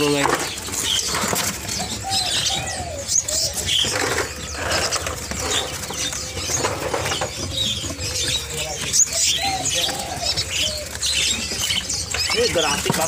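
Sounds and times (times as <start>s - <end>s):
songbirds chirping and twittering: 0.0s - 13.0s
low cooing calls: 0.6s - 13.0s.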